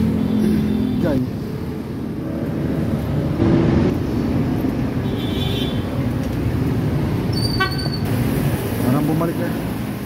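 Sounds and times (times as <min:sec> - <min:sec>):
cars and motorcycles passing: 0:00.0 - 0:10.0.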